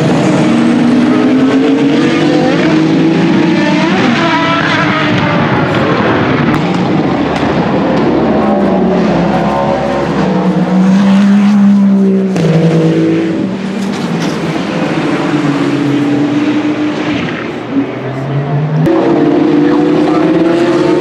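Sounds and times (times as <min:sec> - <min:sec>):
race car engines at high revs: 0:00.0 - 0:21.0
race car passing by: 0:00.0 - 0:21.0.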